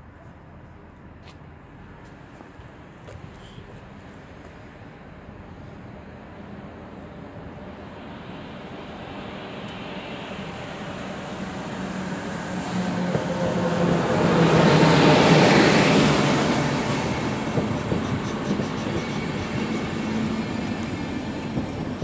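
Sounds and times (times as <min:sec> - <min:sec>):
electric locomotive hum: 0:04.0 - 0:22.0.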